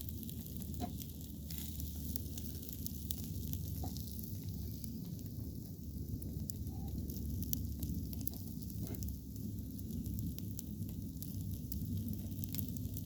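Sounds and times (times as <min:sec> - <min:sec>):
meat sizzling and crackling: 0:00.0 - 0:13.0.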